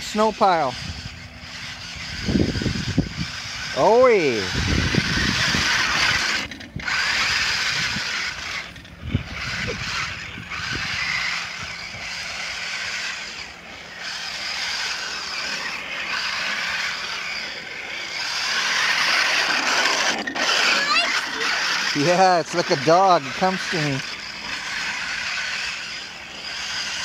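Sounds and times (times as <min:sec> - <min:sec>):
toy truck electric motor whining: 0:00.0 - 0:27.0.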